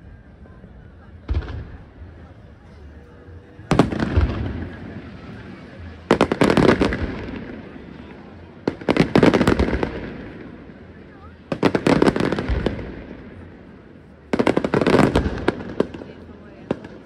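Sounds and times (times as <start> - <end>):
fireworks bursting with bangs and crackles: 1.2 - 2.6, 3.5 - 17.0.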